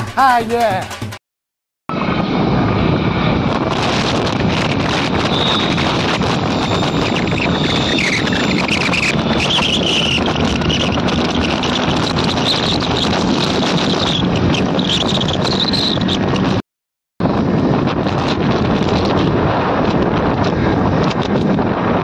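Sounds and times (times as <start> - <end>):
motorcycle engine and road noise: 1.9 - 16.6, 17.2 - 22.0
wind rushing over microphone: 1.9 - 16.6, 17.2 - 22.0.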